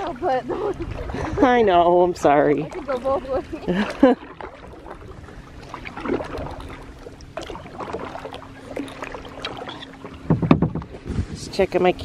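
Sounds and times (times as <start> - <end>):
paddle splashing in water: 0.0 - 11.5.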